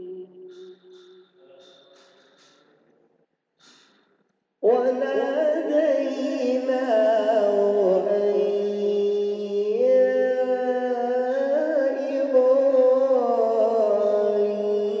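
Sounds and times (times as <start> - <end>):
man chanting melodically: 0.0 - 2.6, 4.6 - 15.0.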